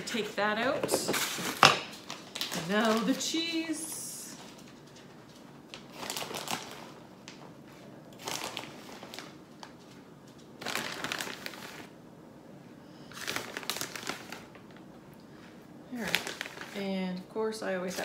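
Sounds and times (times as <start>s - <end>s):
plastic bag crinkling: 0.0s - 12.0s, 13.0s - 17.2s.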